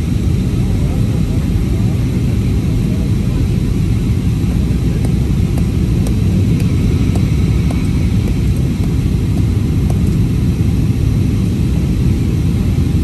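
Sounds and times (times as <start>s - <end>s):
jet airliner cabin roar: 0.0s - 13.0s.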